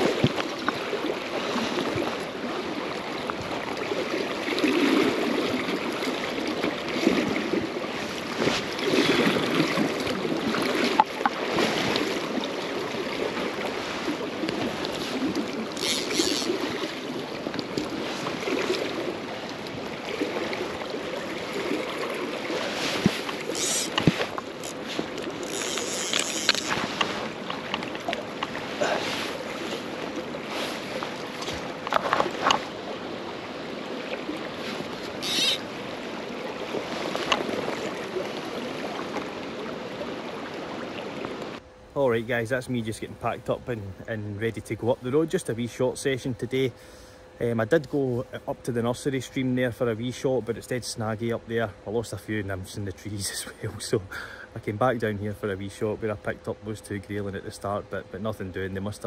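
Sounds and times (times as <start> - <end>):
river water running: 0.0 - 59.0.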